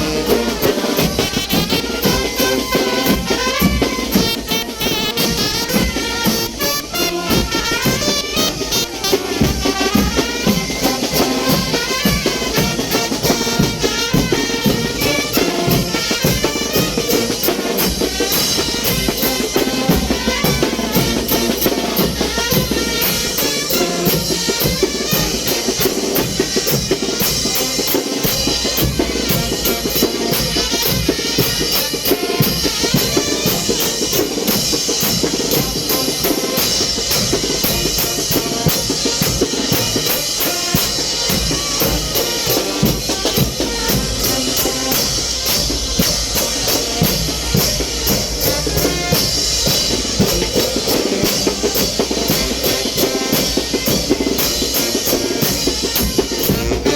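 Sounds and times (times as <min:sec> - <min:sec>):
bass drum snare and cymbals: 0:00.0 - 0:56.9
brass and clarinet: 0:00.0 - 0:56.9
wind band playing: 0:00.0 - 0:56.9.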